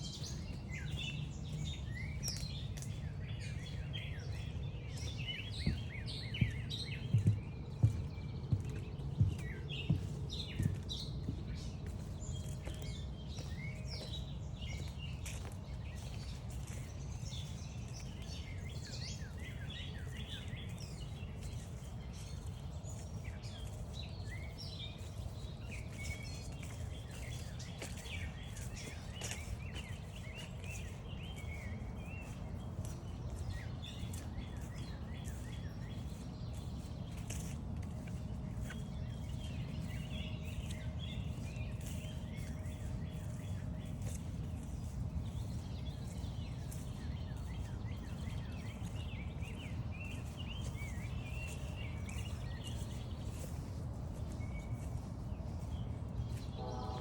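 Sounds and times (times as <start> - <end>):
songbirds singing and chirping: 0.0 - 57.0.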